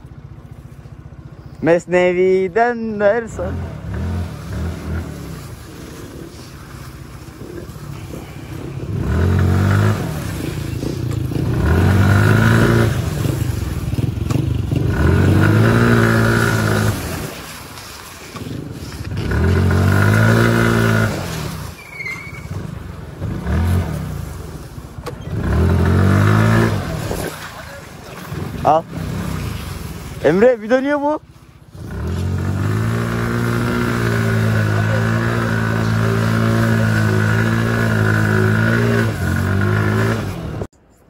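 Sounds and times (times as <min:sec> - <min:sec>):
small motorcycle engine revving: 0:03.0 - 0:30.2, 0:31.7 - 0:40.7.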